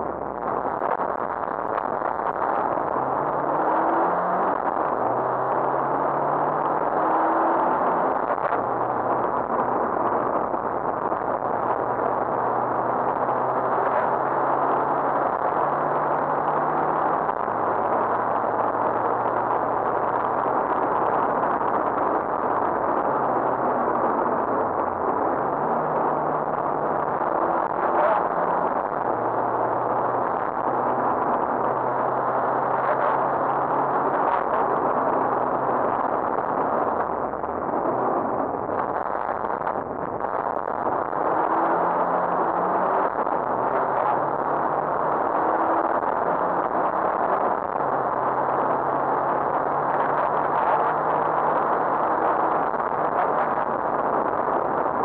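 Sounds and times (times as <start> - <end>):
rally car engine running hard: 0.0 - 55.0
road and tyre noise: 0.0 - 55.0.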